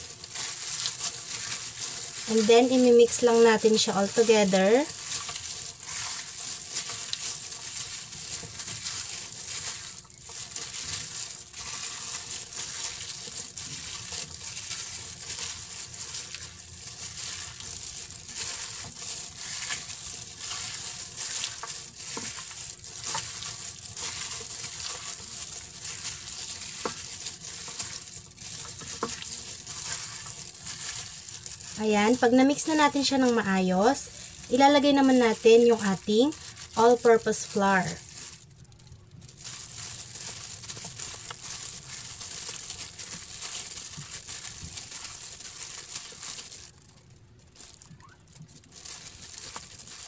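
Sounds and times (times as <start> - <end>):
plastic glove crinkling: 0.0 - 50.0
wet squishing of meat: 0.0 - 50.0.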